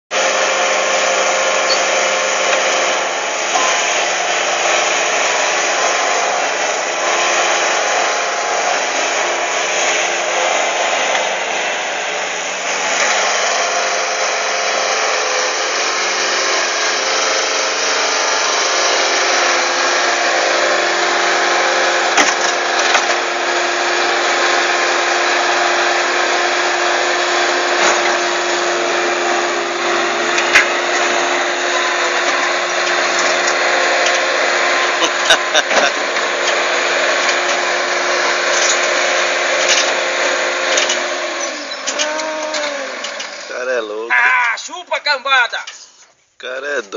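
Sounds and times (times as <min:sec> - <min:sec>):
diesel engine running under load: 0:00.1 - 0:44.4.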